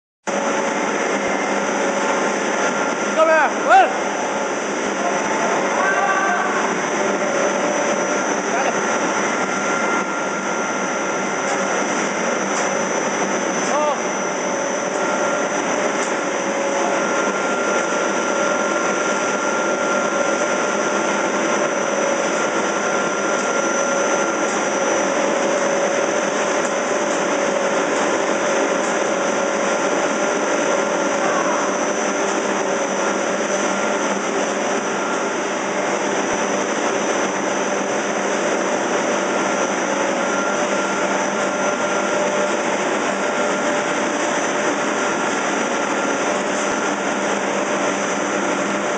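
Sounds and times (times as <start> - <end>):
constant machine tones: 0.3 - 48.9
machinery whirring: 0.3 - 48.9.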